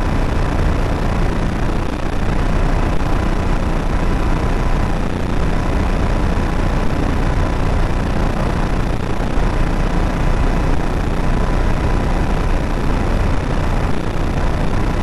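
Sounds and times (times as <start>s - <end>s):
loud static-like rushing: 0.0s - 15.0s.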